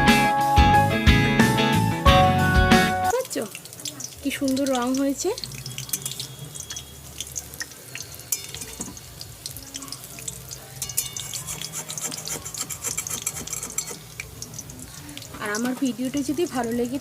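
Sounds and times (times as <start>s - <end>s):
oil crackling while deep-frying: 3.0s - 17.0s.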